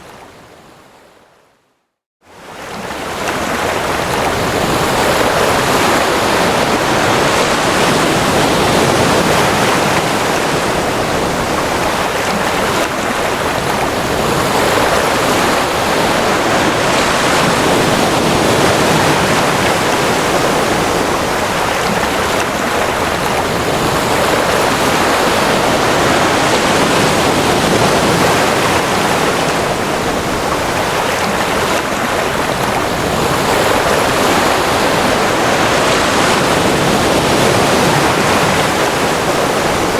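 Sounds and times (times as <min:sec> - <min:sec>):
ocean waves washing in: 0:02.2 - 0:39.9.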